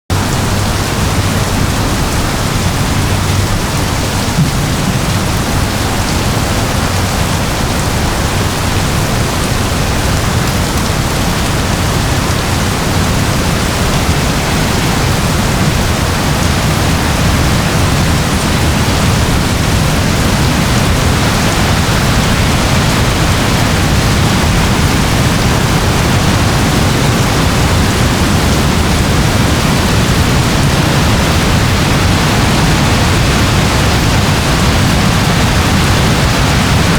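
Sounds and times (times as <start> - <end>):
steady rain: 0.1 - 36.9.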